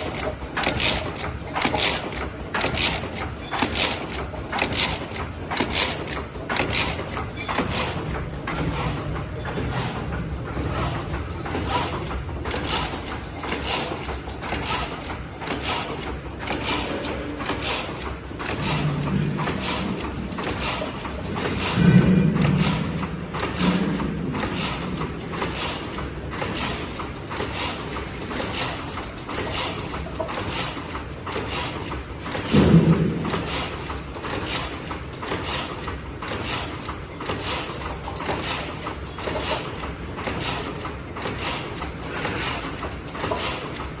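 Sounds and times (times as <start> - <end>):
wire mesh machine clacking: 0.0 - 44.0.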